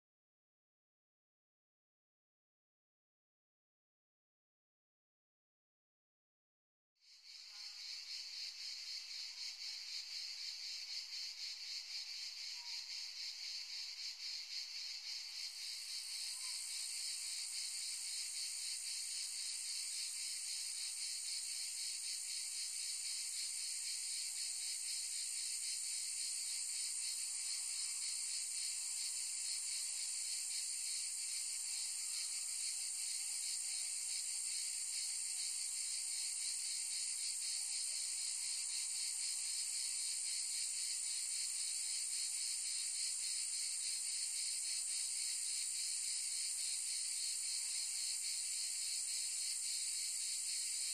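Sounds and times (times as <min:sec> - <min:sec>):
insects buzzing in chorus: 0:07.1 - 0:50.9.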